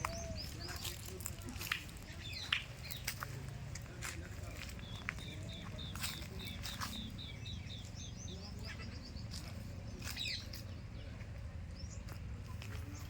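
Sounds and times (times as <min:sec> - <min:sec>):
bird chirping: 0:00.0 - 0:03.4, 0:04.0 - 0:13.0.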